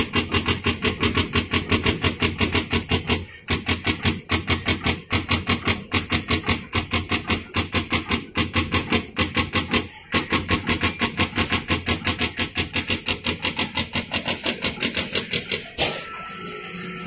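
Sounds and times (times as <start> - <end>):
machine clicking rapidly: 0.0 - 15.9.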